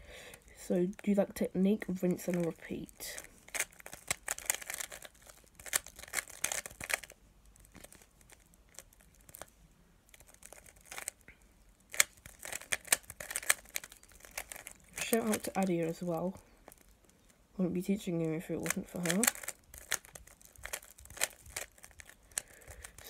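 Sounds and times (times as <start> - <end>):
puzzle cube clicking: 0.9 - 11.2, 11.9 - 17.3, 18.2 - 23.0.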